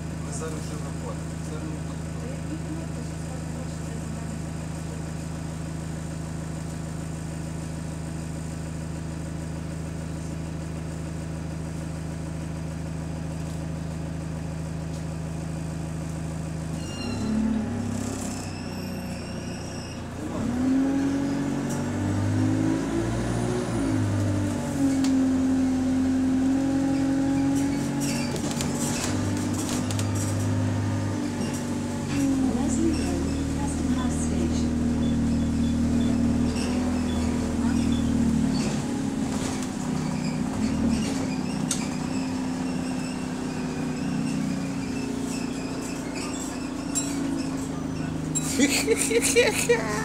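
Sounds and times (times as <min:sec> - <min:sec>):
bus diesel engine: 0:00.0 - 0:50.0.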